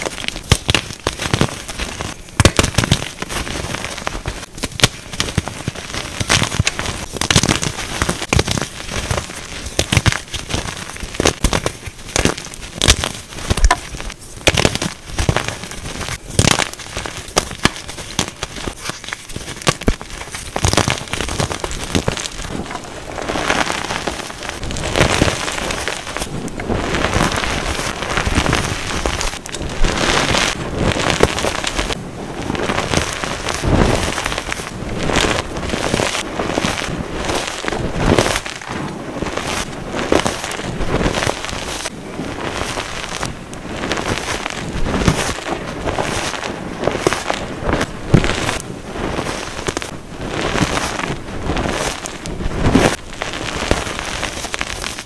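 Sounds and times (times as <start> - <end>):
hands crunching chalk: 0.0 - 55.0
small sharp crackles: 0.0 - 55.0.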